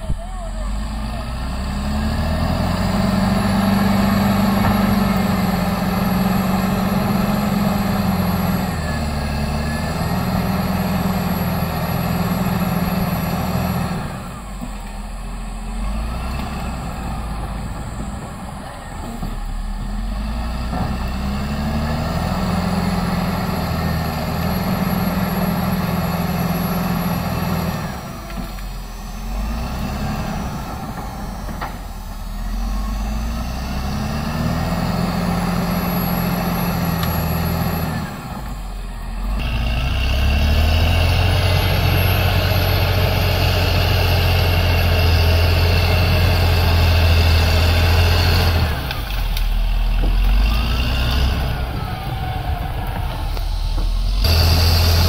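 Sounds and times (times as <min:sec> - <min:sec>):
bulldozer diesel engine working hard: 0:00.0 - 0:55.0.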